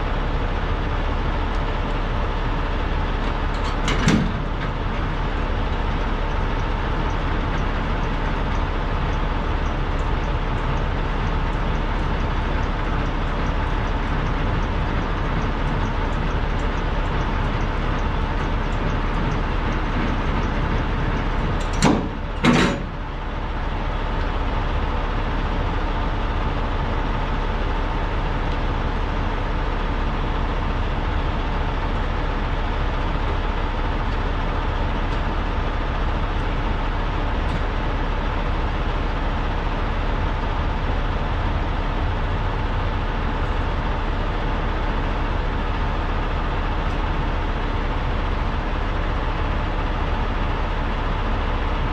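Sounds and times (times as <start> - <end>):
diesel truck engines idling: 0.0 - 51.9.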